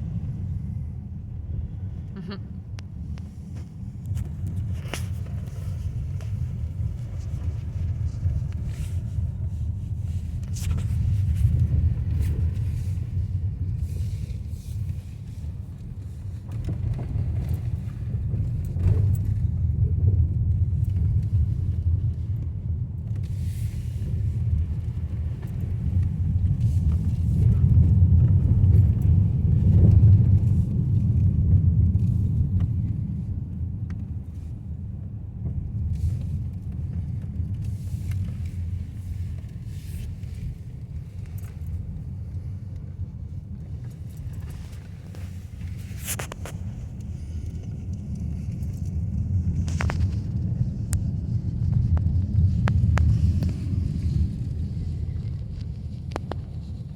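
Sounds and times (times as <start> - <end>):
car engine and tyres rumbling: 0.0 - 56.9.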